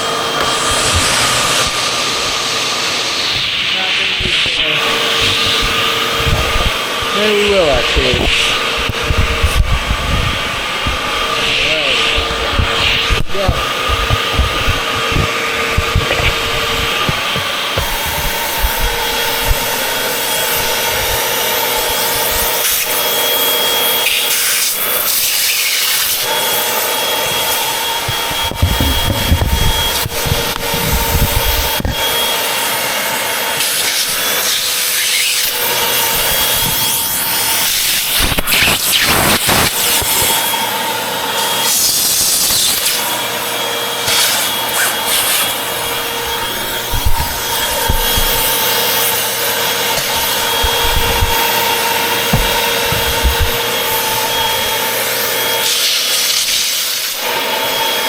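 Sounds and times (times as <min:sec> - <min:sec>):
vacuum cleaner motor whine: 0:00.0 - 0:58.0
vacuum nozzle scraping surfaces: 0:00.0 - 0:58.0.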